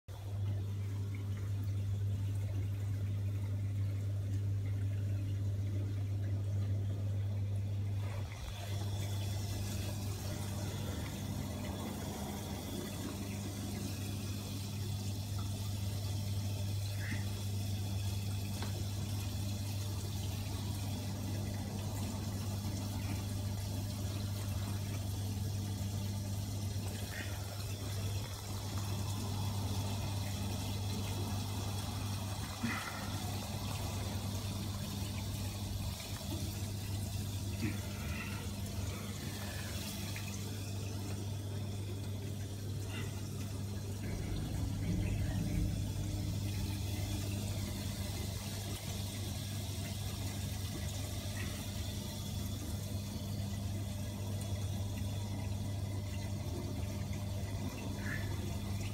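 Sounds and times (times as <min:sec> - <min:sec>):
aquarium pump humming: 0:00.1 - 0:58.9
running water: 0:00.1 - 0:58.9.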